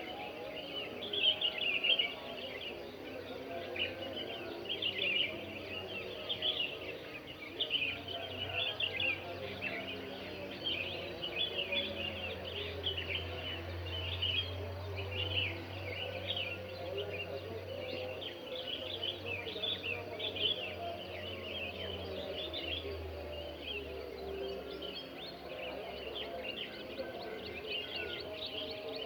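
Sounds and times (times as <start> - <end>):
birds chirping and singing: 0.0 - 29.0.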